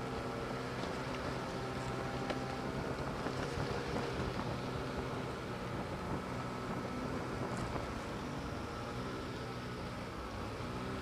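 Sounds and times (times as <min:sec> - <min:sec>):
snowmobile engine running: 0:00.0 - 0:11.0
rushing noise through snow: 0:00.6 - 0:11.0.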